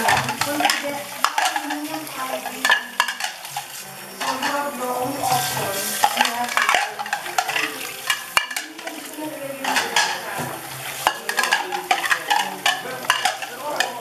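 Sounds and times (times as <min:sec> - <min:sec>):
sponge scrubbing plates: 0:00.0 - 0:14.0
tap water running into sink: 0:00.0 - 0:14.0.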